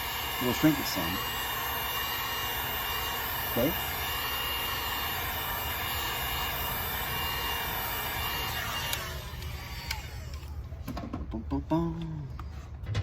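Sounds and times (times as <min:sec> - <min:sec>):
heat gun blowing with high whine: 0:00.0 - 0:10.6.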